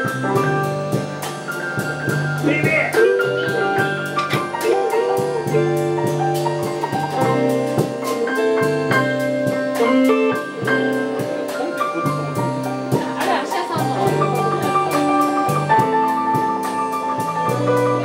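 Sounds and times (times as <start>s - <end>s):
bass guitar: 0.0s - 18.0s
drum kit beat: 0.0s - 18.0s
electric guitars: 0.0s - 18.0s
keyboard: 0.0s - 18.0s.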